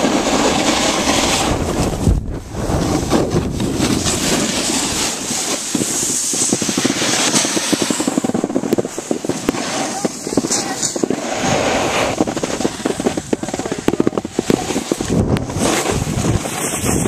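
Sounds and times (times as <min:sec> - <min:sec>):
snowboard scraping on snow: 0:00.0 - 0:17.0
wind on microphone: 0:00.0 - 0:17.0.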